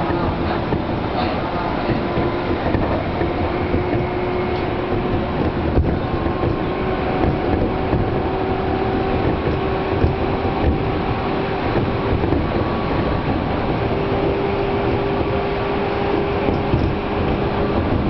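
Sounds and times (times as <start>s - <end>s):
train wheels rumbling on rails: 0.0s - 18.0s
train whine: 0.0s - 18.0s.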